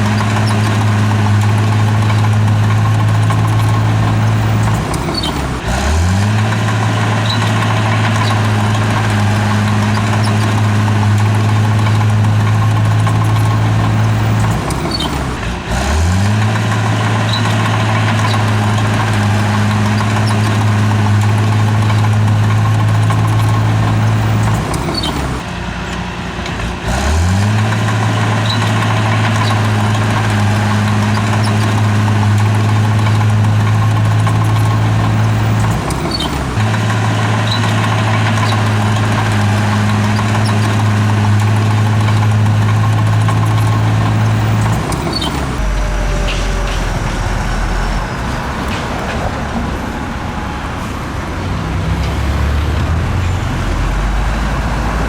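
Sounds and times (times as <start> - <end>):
bulldozer diesel engine revving: 0.0 - 55.0.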